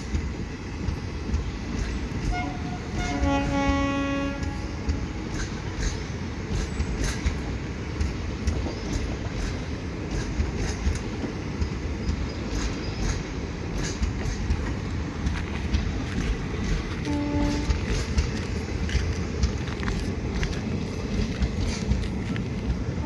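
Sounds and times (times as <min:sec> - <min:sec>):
train heavy rumble: 0:00.0 - 0:23.0
wheels clicking over rail joints: 0:00.0 - 0:23.0.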